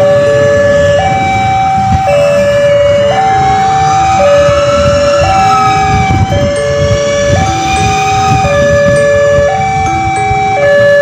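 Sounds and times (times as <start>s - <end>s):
level crossing two-tone alarm: 0.0s - 11.0s.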